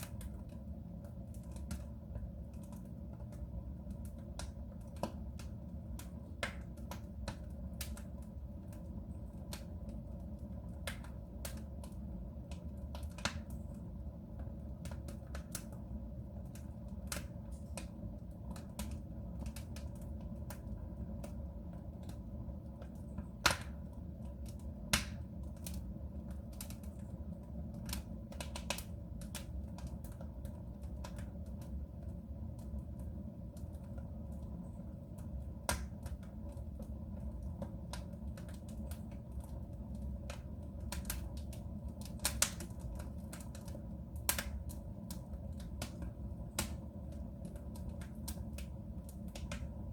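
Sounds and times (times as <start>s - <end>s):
low fire rumble: 0.0s - 49.9s
wood fire crackling and popping: 0.0s - 49.9s.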